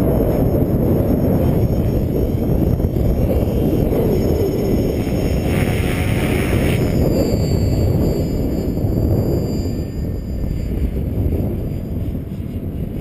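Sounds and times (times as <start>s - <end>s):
rc helicopter rotor whine: 0.0s - 13.0s
wind buffeting microphone: 0.0s - 13.0s.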